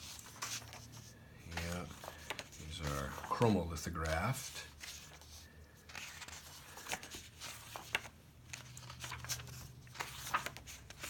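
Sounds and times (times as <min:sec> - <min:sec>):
book pages turning: 0:00.0 - 0:11.0.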